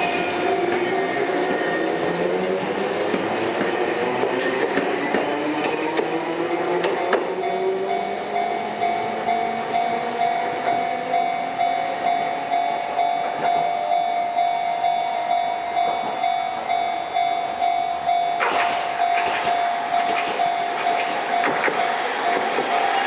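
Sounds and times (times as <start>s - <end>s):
railway crossing bell ringing: 0.0s - 5.3s, 6.0s - 23.0s
tram rattling on rails: 0.0s - 23.0s.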